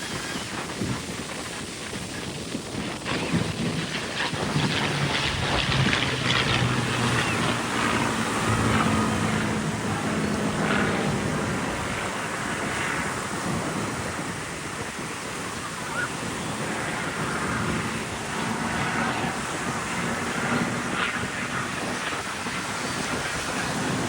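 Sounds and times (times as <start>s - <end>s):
wind rushing over microphone: 0.0s - 24.0s
ocean surf: 4.0s - 24.0s.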